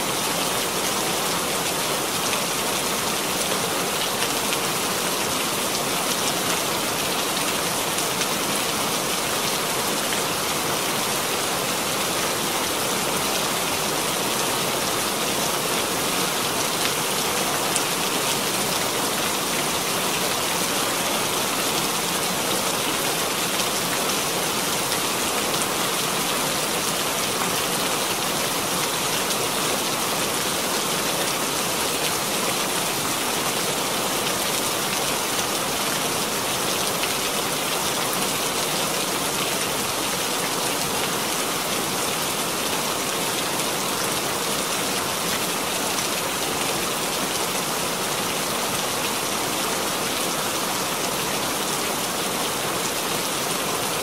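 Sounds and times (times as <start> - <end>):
heavy rain splashing on ground: 0.0 - 54.0.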